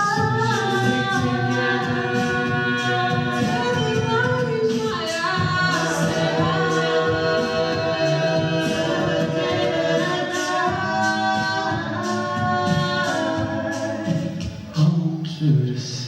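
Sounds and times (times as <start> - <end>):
a cappella group singing: 0.0 - 15.0
vocal percussion beat: 0.0 - 16.0.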